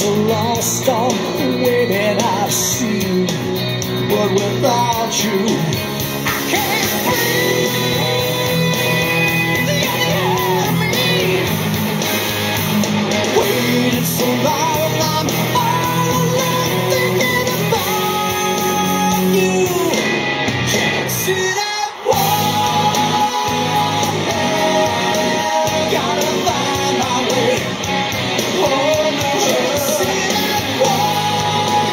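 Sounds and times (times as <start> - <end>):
person singing: 0.0 - 11.6, 13.3 - 31.9
rock song with electric guitar: 0.0 - 31.9.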